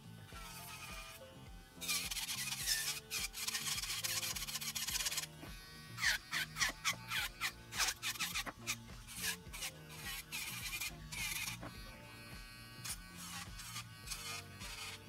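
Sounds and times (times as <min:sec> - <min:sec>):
background music with bass line: 0:00.0 - 0:15.0
nail drill grinding: 0:00.0 - 0:15.0.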